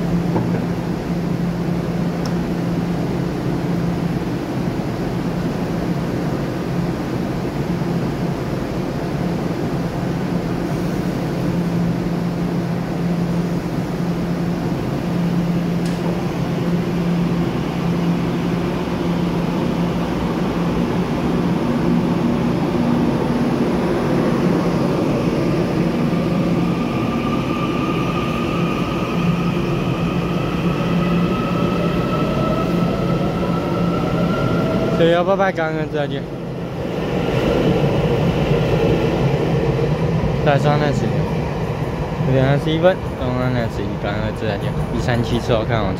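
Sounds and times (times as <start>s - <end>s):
electric train humming: 0.0s - 45.9s.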